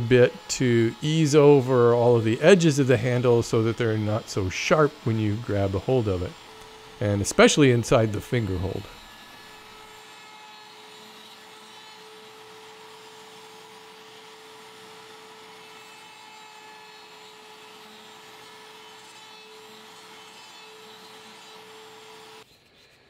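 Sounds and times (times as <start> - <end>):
router humming steadily: 0.0 - 22.5.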